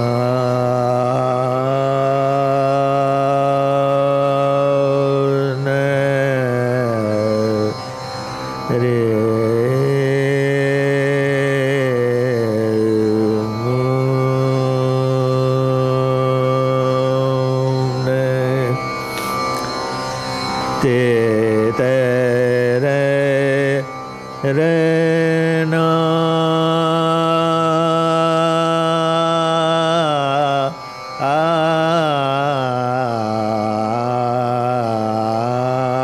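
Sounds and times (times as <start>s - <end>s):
man singing long notes: 0.0s - 8.0s, 8.6s - 19.8s, 20.8s - 36.0s
tanpura drone: 0.0s - 36.0s.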